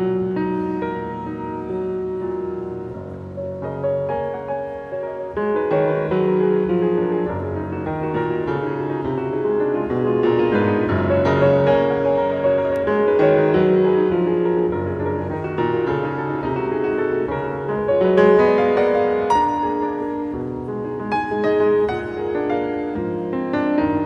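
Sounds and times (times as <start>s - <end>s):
solo piano classical piece: 0.0s - 24.0s.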